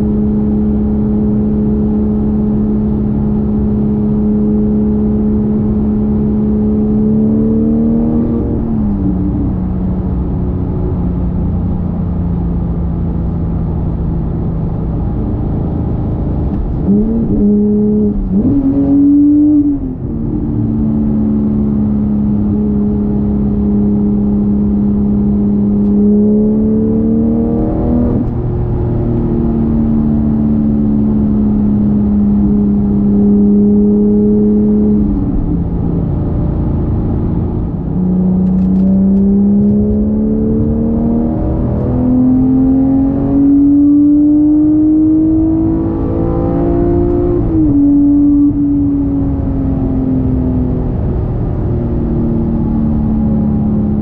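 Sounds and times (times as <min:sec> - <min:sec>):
car engine cruising: 0:00.0 - 0:54.0.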